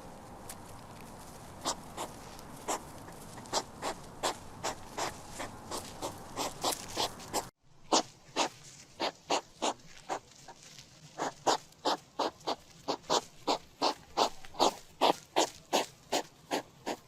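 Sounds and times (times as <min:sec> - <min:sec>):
hedgehog sniffing puffs: 0:01.2 - 0:17.0.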